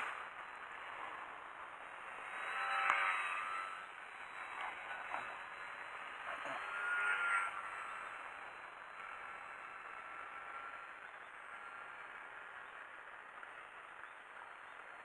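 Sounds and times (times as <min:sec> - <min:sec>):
model airplane motor whining: 0:00.0 - 0:13.9.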